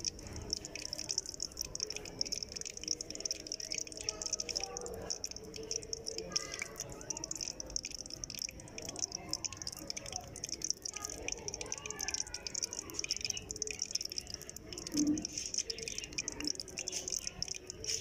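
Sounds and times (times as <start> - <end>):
dough frying in hot oil: 0.0 - 18.0.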